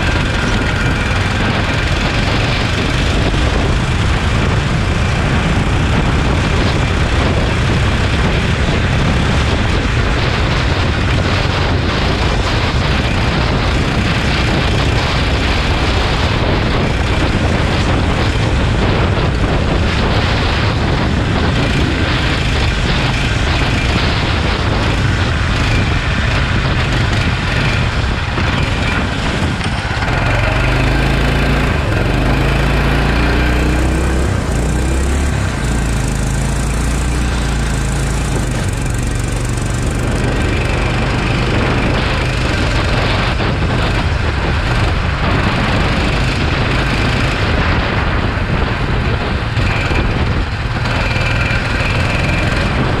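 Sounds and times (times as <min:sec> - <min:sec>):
go-kart engine running: 0:00.0 - 0:53.0
wind and road noise: 0:00.0 - 0:53.0.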